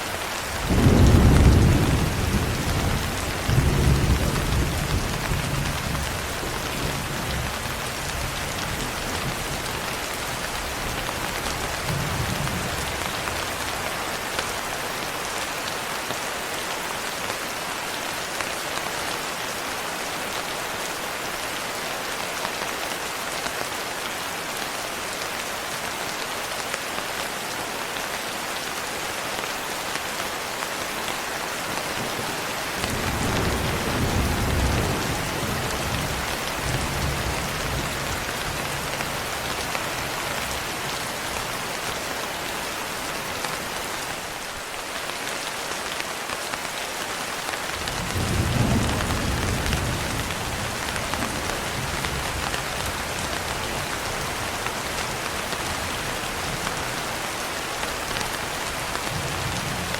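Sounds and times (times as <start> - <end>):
rain pattering on a window: 0.1 - 59.9.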